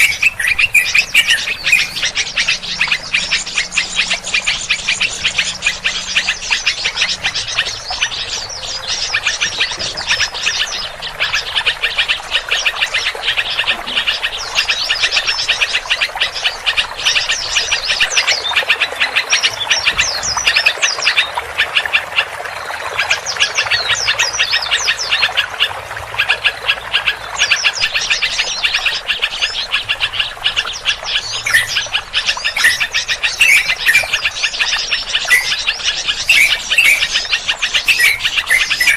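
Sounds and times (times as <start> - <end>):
chorus of small birds chirping: 0.0 - 38.9.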